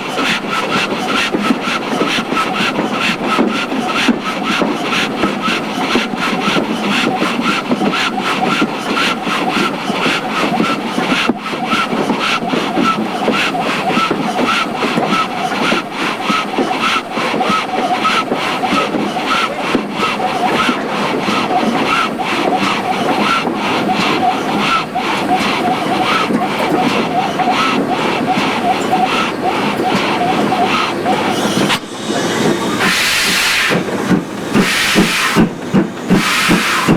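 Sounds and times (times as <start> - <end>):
steam train chuffing: 0.0 - 36.9.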